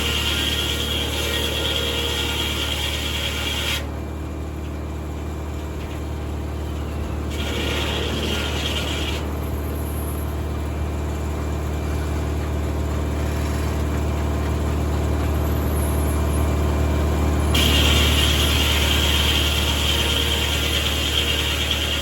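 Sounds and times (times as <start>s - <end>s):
tractor engine running: 3.8s - 22.0s.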